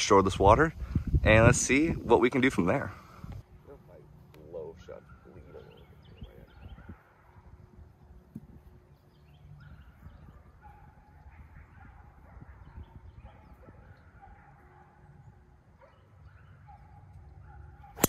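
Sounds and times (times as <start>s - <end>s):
wind rumble on microphone: 0.0s - 4.0s, 4.9s - 15.9s.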